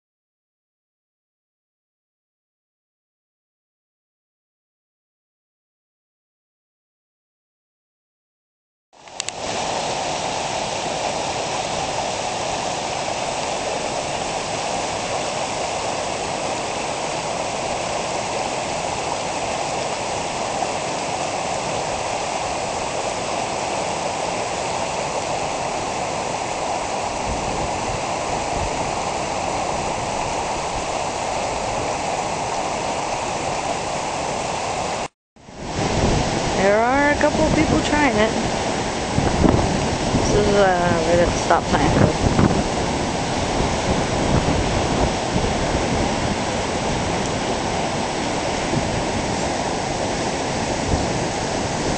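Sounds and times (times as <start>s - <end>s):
flowing creek water: 9.0s - 51.9s.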